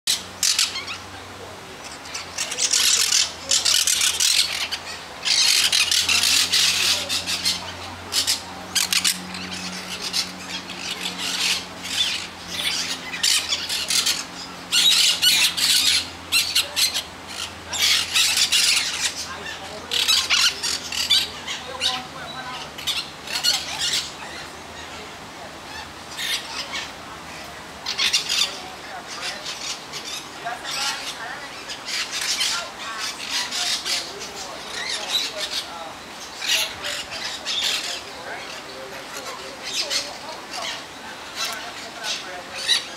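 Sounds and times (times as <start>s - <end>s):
parrots squawking: 0.1s - 1.2s, 1.8s - 42.9s.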